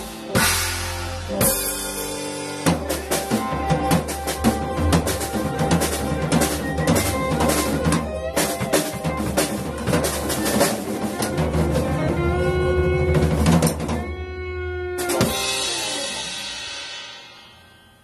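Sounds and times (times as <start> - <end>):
busy drumming: 0.0 - 17.6
small band playing: 0.0 - 18.0.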